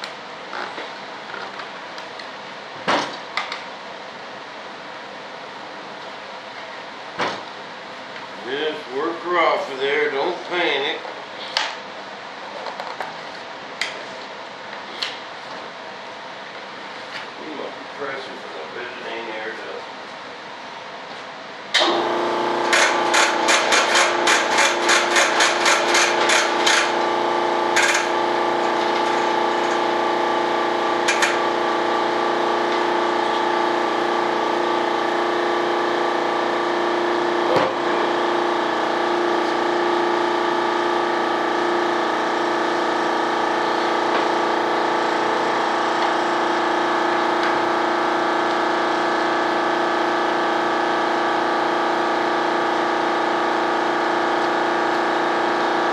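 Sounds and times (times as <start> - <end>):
air compressor humming: 5.6 - 55.9.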